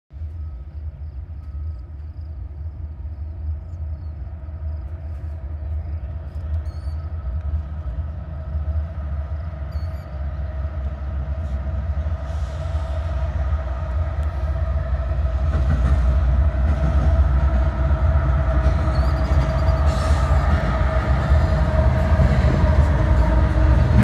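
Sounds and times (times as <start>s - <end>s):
locomotive engines rumbling: 0.1s - 24.0s.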